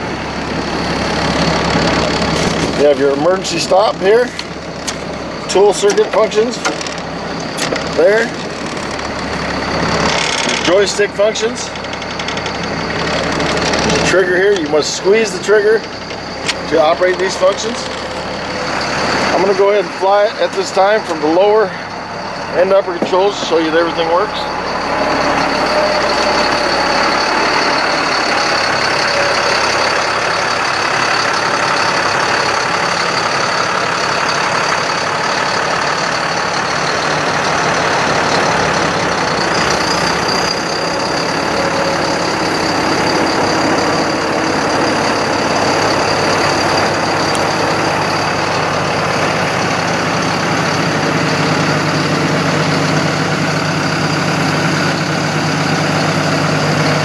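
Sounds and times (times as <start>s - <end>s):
truck engine running: 0.0s - 57.0s
thin high whine: 5.1s - 30.5s, 36.6s - 57.0s.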